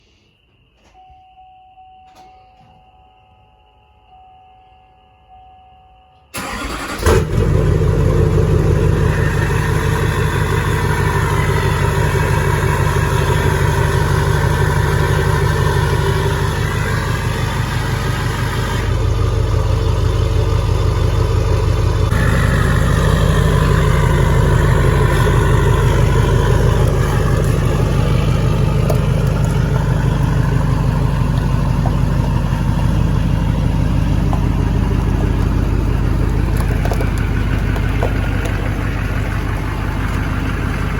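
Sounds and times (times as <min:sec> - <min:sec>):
diesel engine idling: 0:06.3 - 0:40.9.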